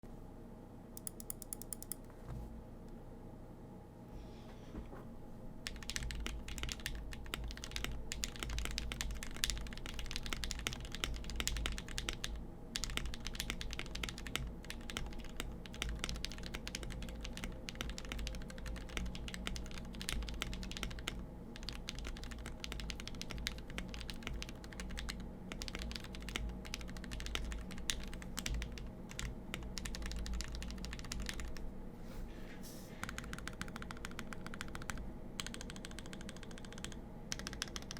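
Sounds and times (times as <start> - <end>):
fast typing on mechanical keyboard: 1.0 - 2.0, 5.6 - 31.7, 33.0 - 37.9.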